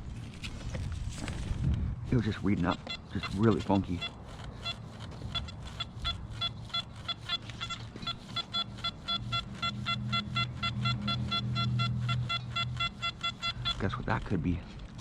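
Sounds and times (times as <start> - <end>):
pinpointer beeping rapidly: 2.3 - 14.3.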